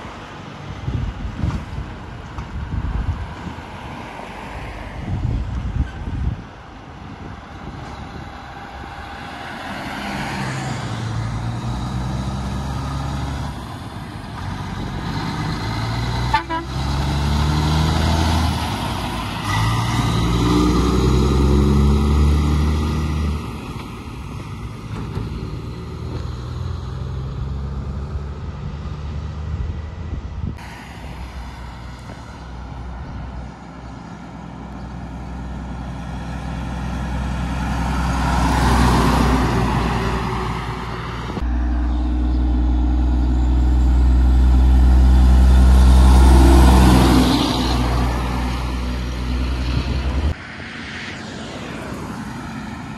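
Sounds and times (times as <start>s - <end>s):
truck diesel engine accelerating: 0.0s - 52.9s.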